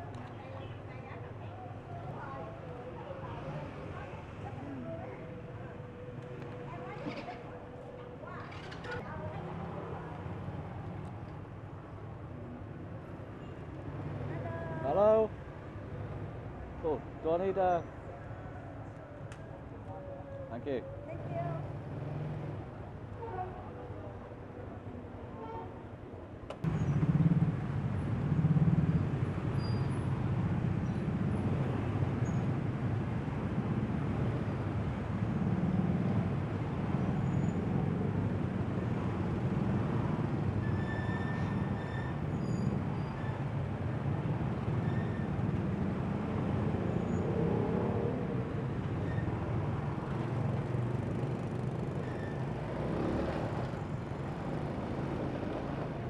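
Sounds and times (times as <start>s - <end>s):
motorbike and scooter engines: 0.0s - 56.0s.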